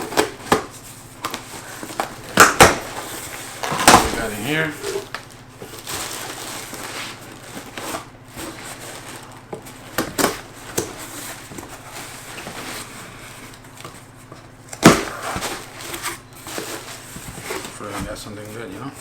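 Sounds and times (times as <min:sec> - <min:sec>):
packaging rustling and scraping: 0:00.0 - 0:19.0.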